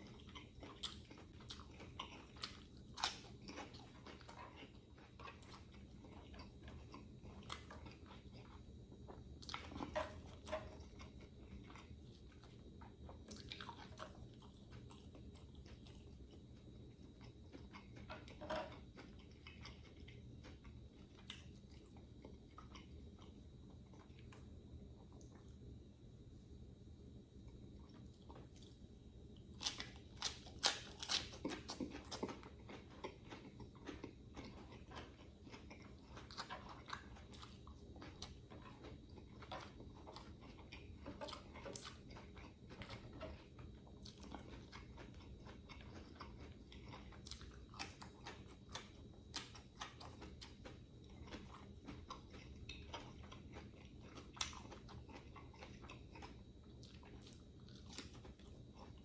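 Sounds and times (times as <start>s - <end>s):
person chewing crunchy food: 0.0s - 25.7s, 27.5s - 59.0s.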